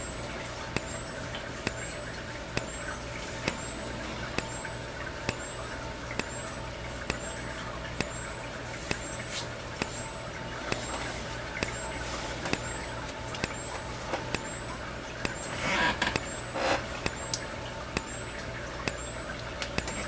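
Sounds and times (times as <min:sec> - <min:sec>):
high-pitched recharging whine: 0:00.0 - 0:20.0
low electrical hum: 0:00.0 - 0:20.0
strobe flash click: 0:00.0 - 0:20.0.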